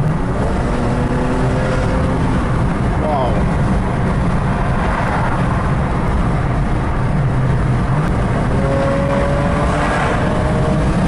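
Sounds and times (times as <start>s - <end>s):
car engine accelerating hard: 0.0s - 11.0s
road and wind noise: 0.0s - 11.0s.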